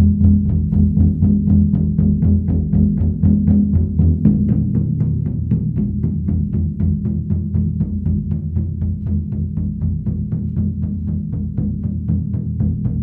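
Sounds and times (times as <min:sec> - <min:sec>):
large frame drum struck with mallets: 0:00.0 - 0:13.0.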